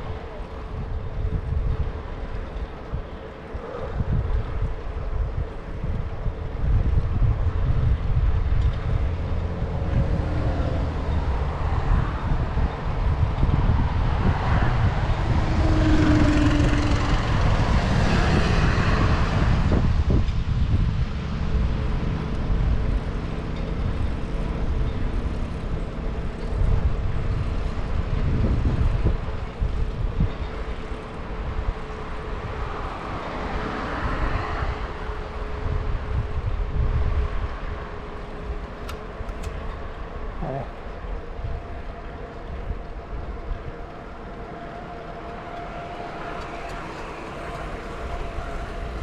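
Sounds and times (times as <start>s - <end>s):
bicycle rolling noise: 0.0s - 49.0s
wind buffeting microphone: 0.0s - 49.0s.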